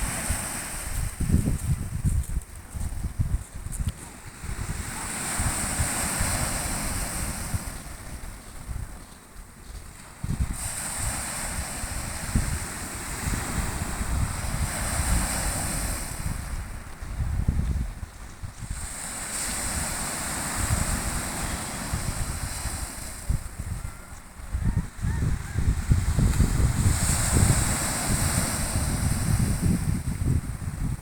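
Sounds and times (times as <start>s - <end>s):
waves washing onto shore: 0.0s - 2.8s, 3.4s - 17.2s, 17.9s - 24.6s, 25.8s - 31.0s
wind buffeting microphone: 0.0s - 31.0s.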